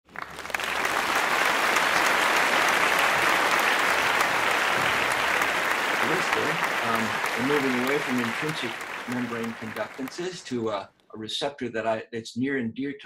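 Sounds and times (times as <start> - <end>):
many hands clapping: 0.0 - 10.6.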